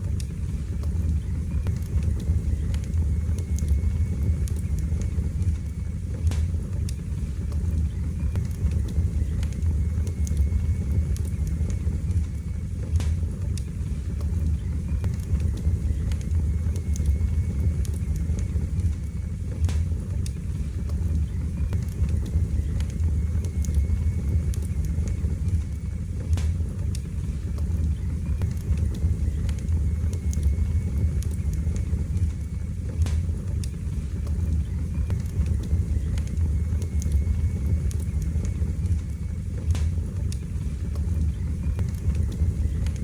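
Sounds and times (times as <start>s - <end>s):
flames rumbling: 0.0s - 43.0s
logs crackling and popping: 0.0s - 43.0s.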